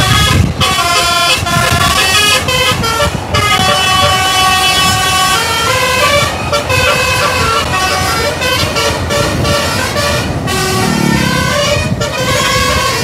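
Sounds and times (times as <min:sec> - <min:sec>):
low engine rumble: 0:00.0 - 0:13.0
multi-tone bus horn tune: 0:00.0 - 0:13.0.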